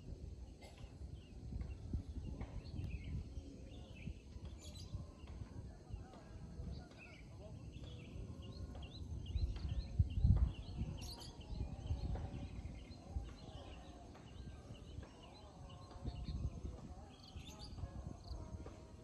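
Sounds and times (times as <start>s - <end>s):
small birds chirping: 0.4s - 18.6s.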